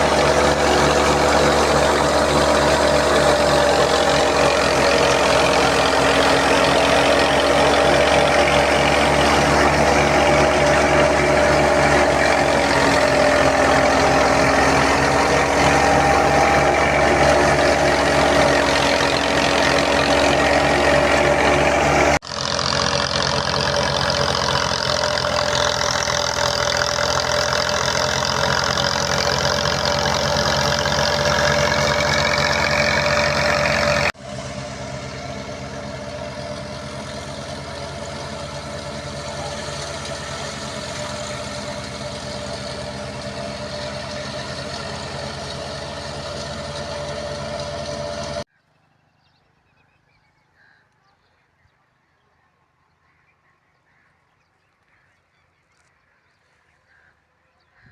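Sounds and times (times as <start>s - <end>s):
thresher machine hum: 0.0s - 48.5s
tractor engine running: 0.0s - 48.5s.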